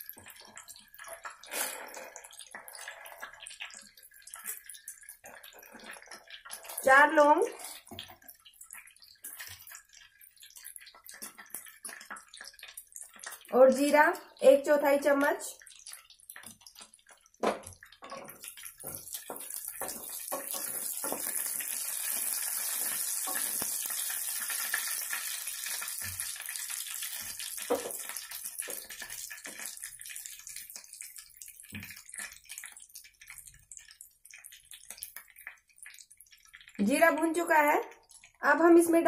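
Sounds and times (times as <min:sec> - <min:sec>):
popping spices: 0:00.0 - 0:38.9
spices sizzling in butter: 0:02.3 - 0:37.6.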